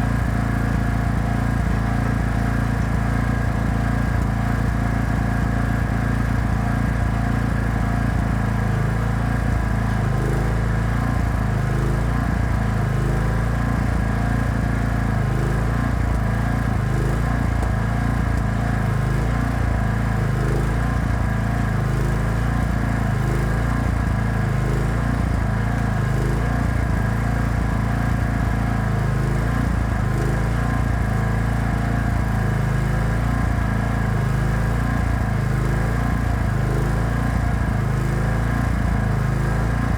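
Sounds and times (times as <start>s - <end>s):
welding generator engine running: 0.0s - 39.9s.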